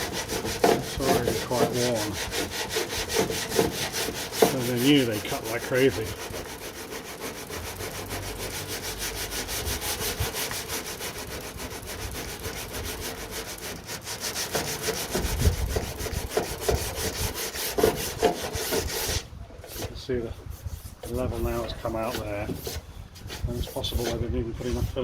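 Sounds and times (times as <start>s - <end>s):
hand sanding rasping strokes: 0.0s - 25.0s.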